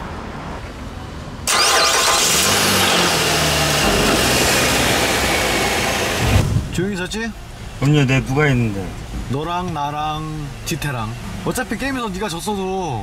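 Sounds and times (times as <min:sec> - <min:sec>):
car engine starting and idling: 0:01.4 - 0:13.0.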